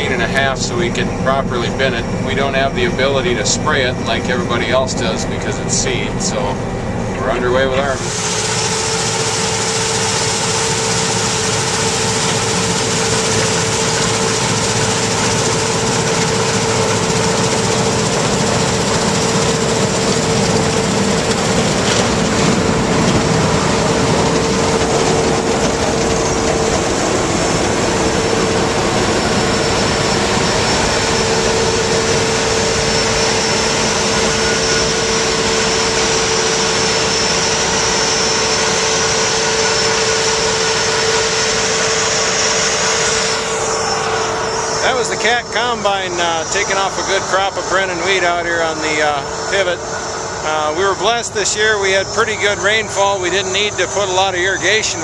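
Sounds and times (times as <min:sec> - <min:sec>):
combine harvester engine and threshing: 0:00.0 - 0:55.0
constant machine tone: 0:00.0 - 0:55.0.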